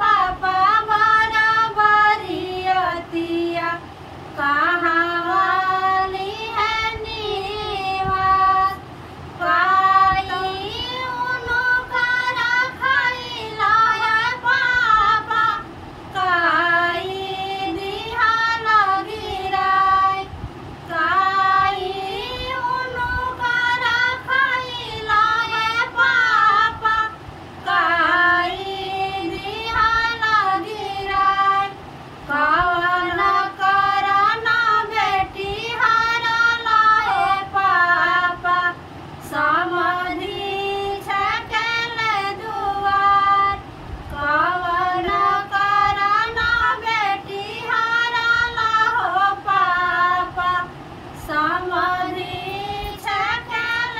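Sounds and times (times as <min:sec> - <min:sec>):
women singing folk song: 0:00.0 - 0:53.9.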